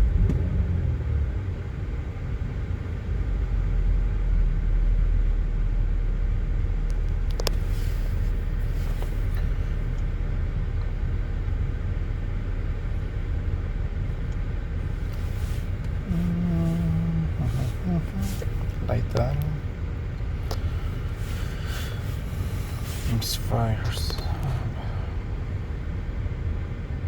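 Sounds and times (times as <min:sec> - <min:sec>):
misfiring car engine idling: 0:00.0 - 0:27.0.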